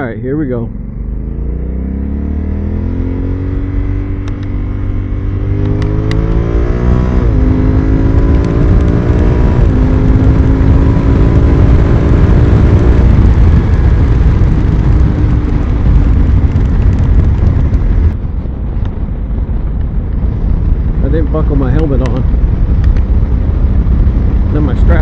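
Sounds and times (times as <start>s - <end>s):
motorcycle engine accelerating: 0.0s - 25.0s
wind rush on microphone: 0.0s - 25.0s.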